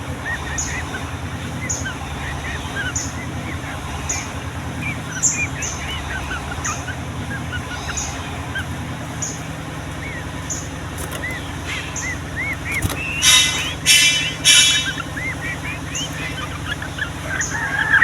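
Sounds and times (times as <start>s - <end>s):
bulbuls whistling calls: 0.0s - 18.0s
high bird chirp: 0.0s - 18.0s
rapid bird chattering: 0.0s - 18.0s
steady low hum: 0.0s - 18.0s.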